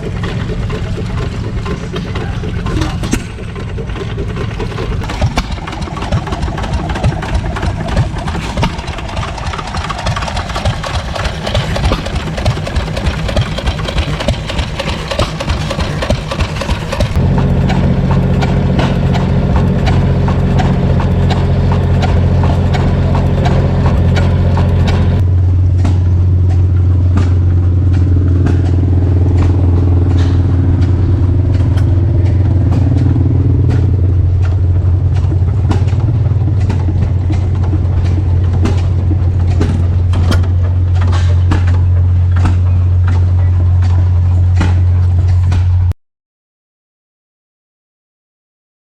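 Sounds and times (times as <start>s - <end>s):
engine low hum: 0.0s - 46.0s.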